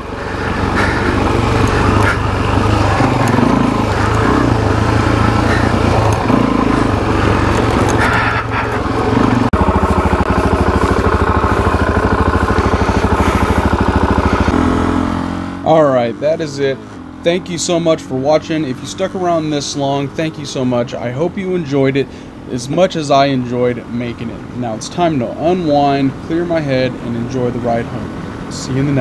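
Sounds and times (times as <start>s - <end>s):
engine running at steady revs: 0.0s - 29.0s
motorcycle engine revving: 0.0s - 29.0s.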